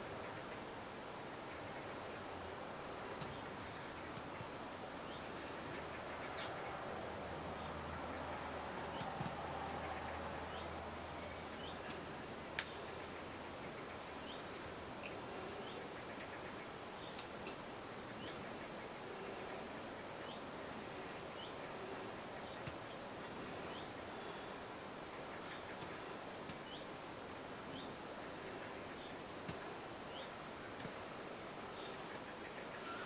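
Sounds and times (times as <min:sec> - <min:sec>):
small birds chirping: 0:00.0 - 0:33.0
steady background hiss: 0:00.0 - 0:33.0.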